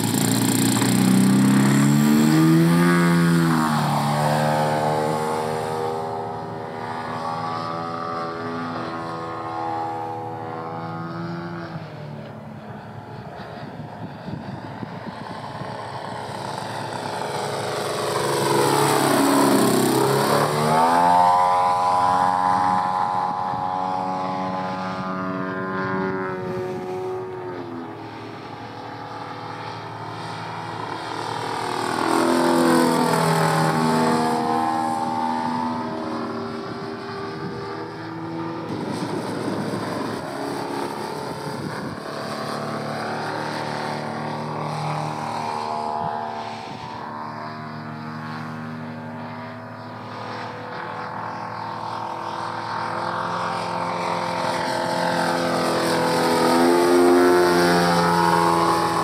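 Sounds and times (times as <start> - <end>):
model plane engine passing: 0.0 - 59.0.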